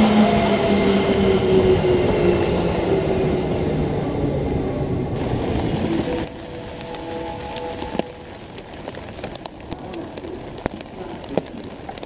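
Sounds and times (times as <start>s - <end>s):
electric train wheels rumbling: 0.0s - 10.6s.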